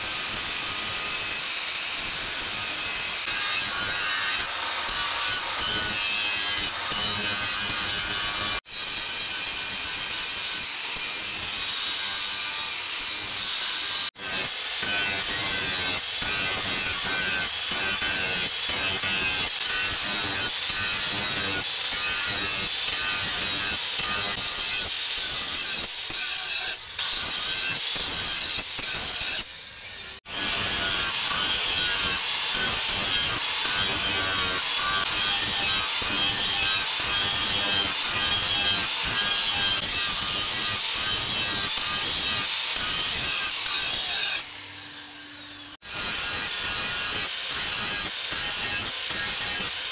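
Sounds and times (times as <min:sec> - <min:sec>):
angle grinder grinding steel: 0:00.0 - 0:49.9.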